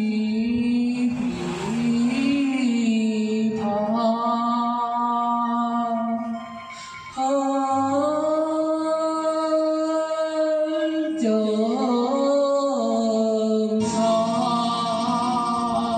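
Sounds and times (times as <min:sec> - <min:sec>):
long held wordless vocal notes: 0:00.0 - 0:15.9.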